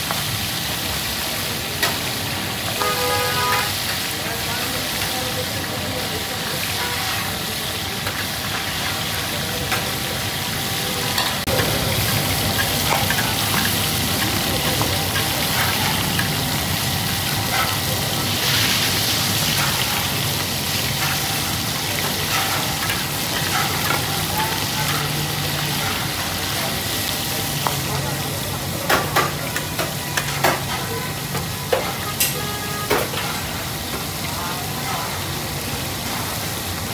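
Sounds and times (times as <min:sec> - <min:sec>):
fish frying in hot oil: 0:00.0 - 0:36.9.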